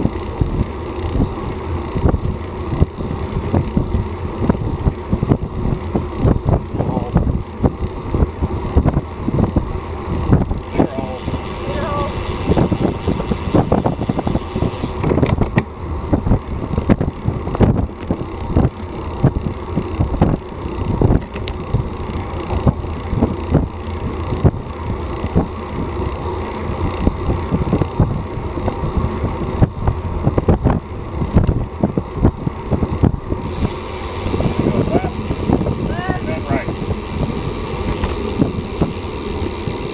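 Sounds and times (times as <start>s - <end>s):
tyre and road noise: 0.0s - 39.9s
wind rumbling over microphone: 0.0s - 39.9s.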